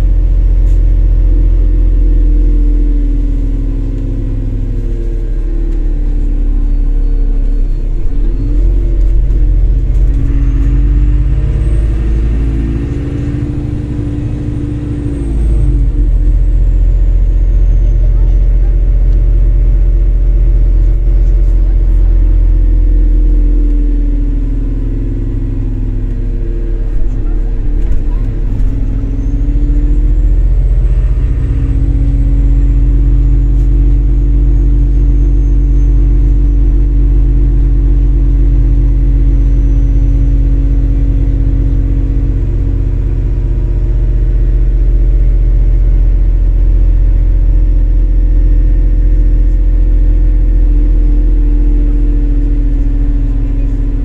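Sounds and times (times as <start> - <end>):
bus engine drone from inside: 0.0 - 54.0.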